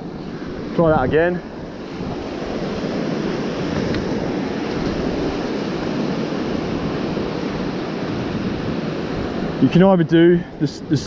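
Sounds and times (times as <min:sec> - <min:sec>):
surf washing up beach: 0:00.0 - 0:11.0
wind buffeting microphone: 0:00.0 - 0:11.0.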